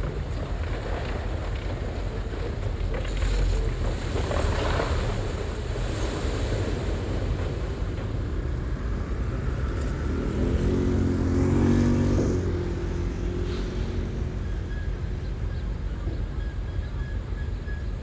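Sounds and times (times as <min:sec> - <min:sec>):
diesel engine deep rumble: 0:00.0 - 0:18.0.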